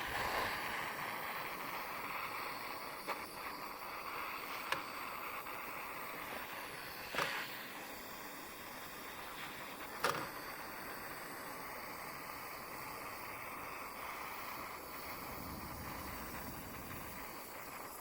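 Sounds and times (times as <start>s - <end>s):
butane torch flame hissing: 0.0s - 18.0s.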